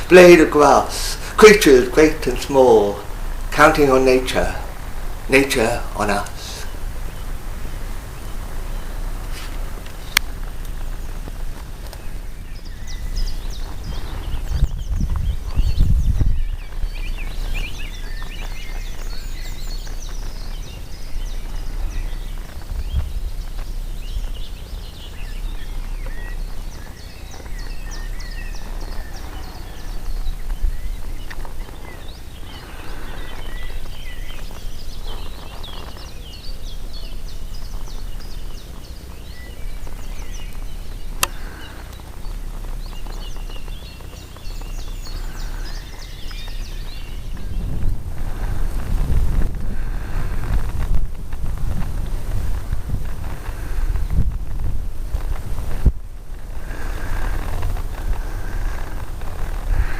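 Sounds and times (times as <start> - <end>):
small birds chirping: 0.0 - 59.9
wind rumble on microphone: 0.0 - 59.9.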